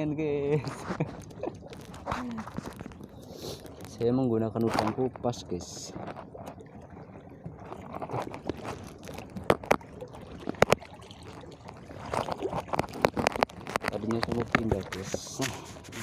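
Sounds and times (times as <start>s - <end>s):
water sloshing against shore: 0.0s - 16.0s.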